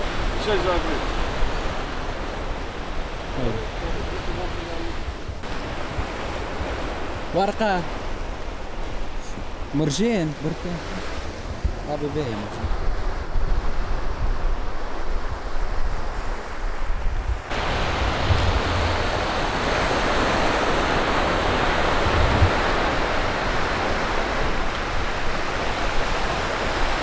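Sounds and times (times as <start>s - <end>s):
surf washing onto a beach: 0.0s - 27.0s
wind buffeting microphone: 0.0s - 27.0s.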